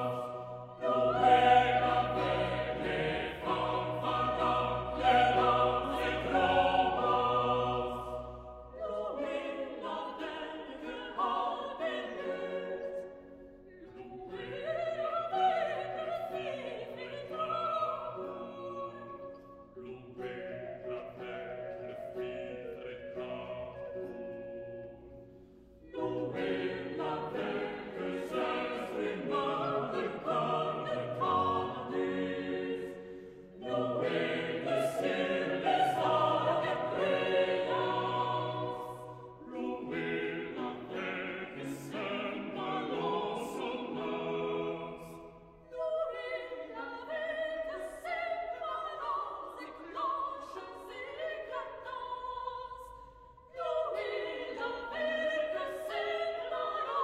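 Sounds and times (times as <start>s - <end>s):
classical vocal music: 0.0s - 57.0s.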